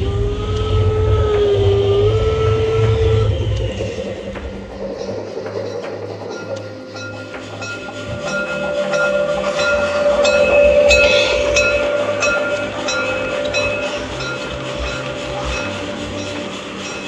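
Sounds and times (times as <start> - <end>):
model train running past: 0.0 - 17.0.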